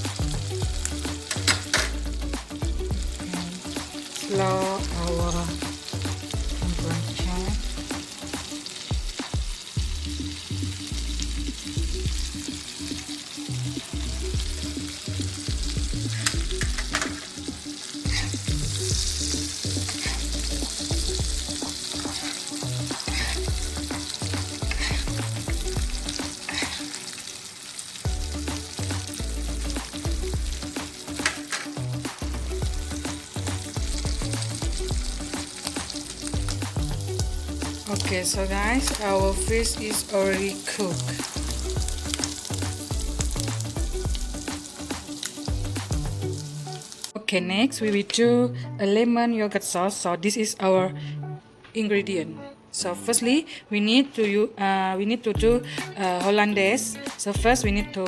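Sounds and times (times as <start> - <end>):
fish sizzling in a pan: 0.0 - 47.2.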